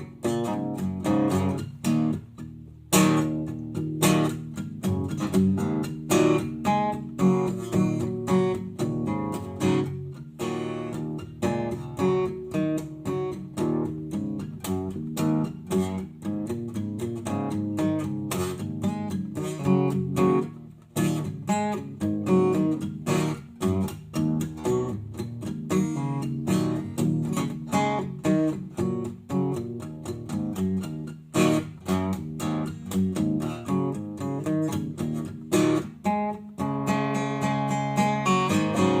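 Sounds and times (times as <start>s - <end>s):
guitar plucked and strummed: 0.0s - 39.0s.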